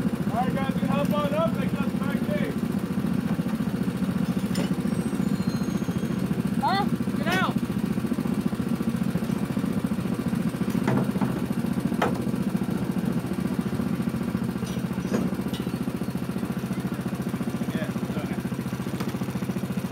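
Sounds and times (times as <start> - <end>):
small engine idling: 0.0 - 19.9.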